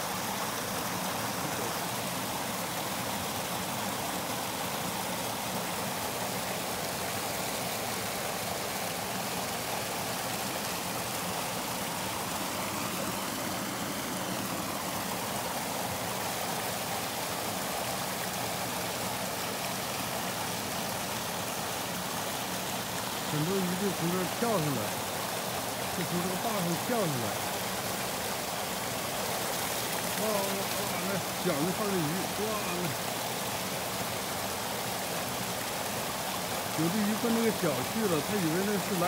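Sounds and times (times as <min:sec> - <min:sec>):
water spilling over weir: 0:00.0 - 0:39.0.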